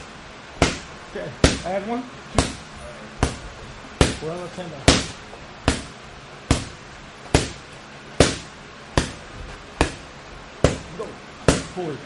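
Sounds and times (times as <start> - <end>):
boxing punches smacking: 0.6 - 3.4, 4.0 - 11.8.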